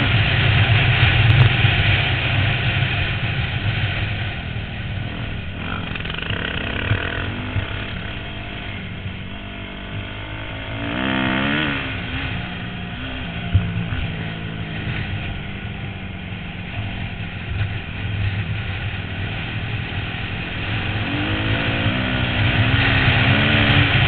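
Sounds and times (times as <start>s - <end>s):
dirt bike engine revving: 4.4s - 24.0s.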